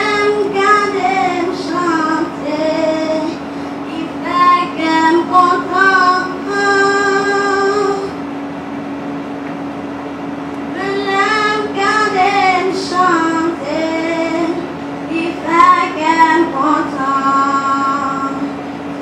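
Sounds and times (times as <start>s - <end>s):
girl singing into a microphone: 0.0s - 8.2s, 10.7s - 18.6s.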